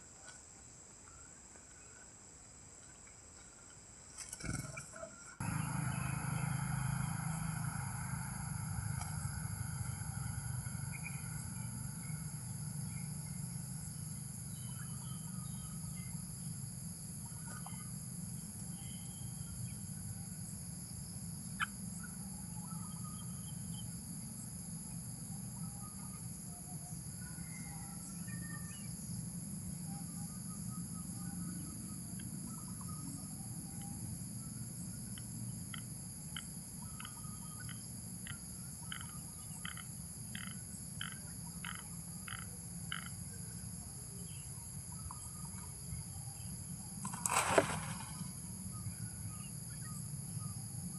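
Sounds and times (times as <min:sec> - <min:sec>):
insect chorus: 0:00.0 - 0:50.9.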